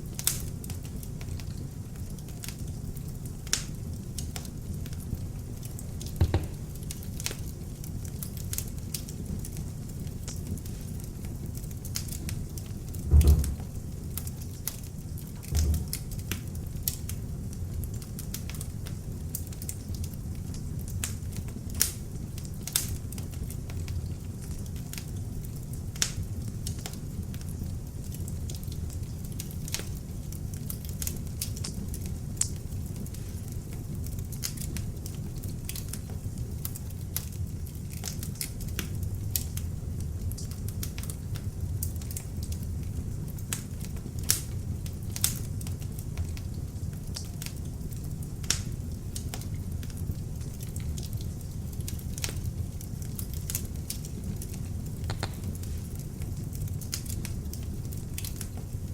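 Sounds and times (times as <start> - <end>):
low rumble of flames: 0.0 - 58.9
wood fire crackling and popping: 0.0 - 58.9.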